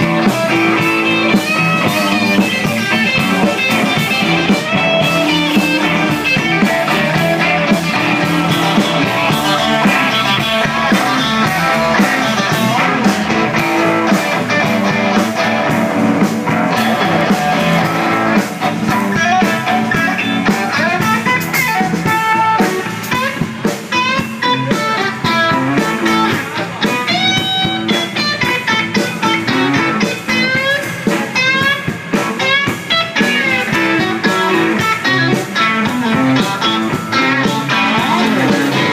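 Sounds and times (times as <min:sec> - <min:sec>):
lead guitar bending notes: 0:00.0 - 0:38.9
live blues band playing: 0:00.0 - 0:38.9.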